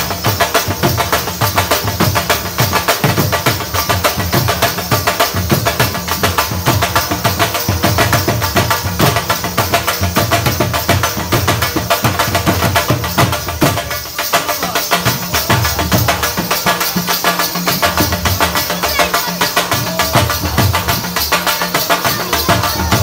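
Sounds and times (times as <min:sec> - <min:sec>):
dhol drumming: 0:00.0 - 0:23.0.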